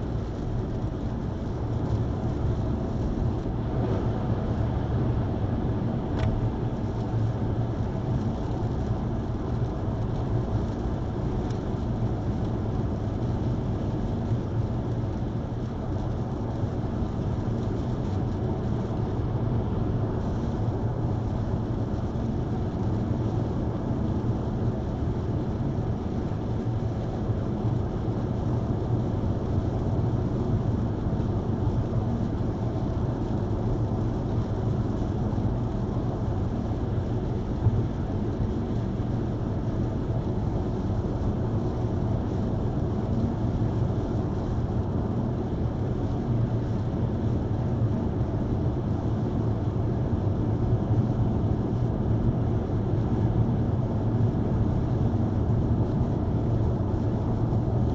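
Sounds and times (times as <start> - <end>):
car road and engine noise: 0.0 - 57.9.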